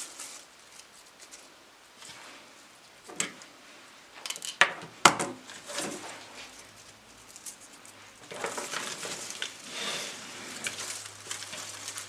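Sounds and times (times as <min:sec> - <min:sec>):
flower stems rustling: 0:00.0 - 0:04.6, 0:05.4 - 0:12.0.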